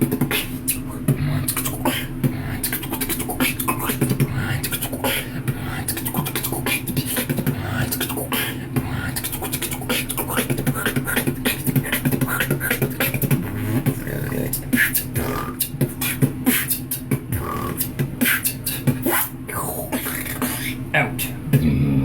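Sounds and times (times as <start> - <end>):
beatboxing vocal percussion: 0.0 - 22.0.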